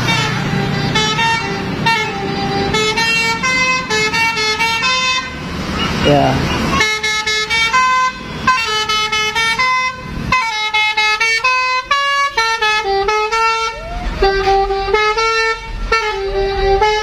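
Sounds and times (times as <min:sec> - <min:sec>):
musical air horn tune: 0:00.0 - 0:05.4, 0:06.7 - 0:17.0.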